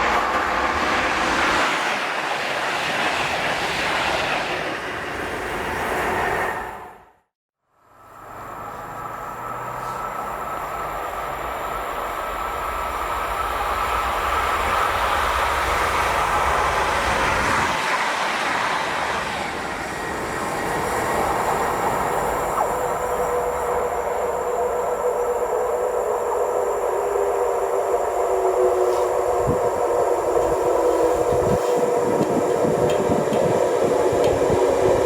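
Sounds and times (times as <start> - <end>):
train wheels rumbling on rails: 0.0 - 7.0, 8.1 - 35.0.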